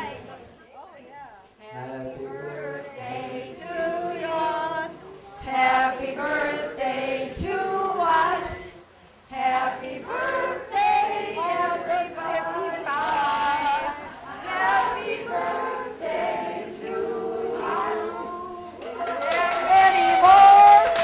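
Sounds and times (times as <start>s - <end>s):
group of voices singing: 1.6s - 19.0s.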